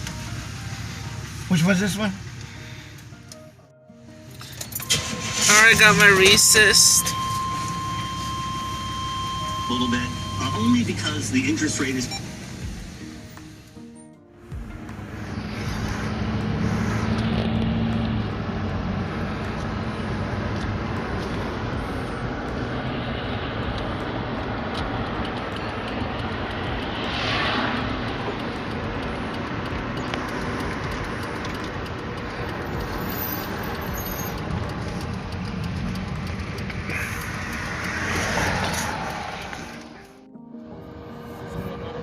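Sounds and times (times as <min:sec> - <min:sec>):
road and engine noise inside car: 0:00.0 - 0:03.5, 0:04.3 - 0:13.8, 0:14.5 - 0:42.0.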